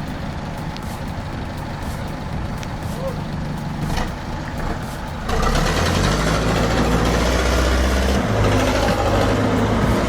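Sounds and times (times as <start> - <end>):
heavy truck engine running: 0.0 - 10.0.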